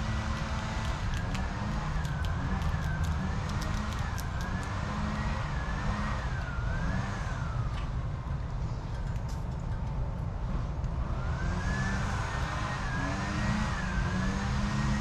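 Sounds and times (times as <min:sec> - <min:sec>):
distant siren wailing: 0:00.0 - 0:08.6, 0:10.8 - 0:15.0
steady low rumble: 0:00.0 - 0:13.0.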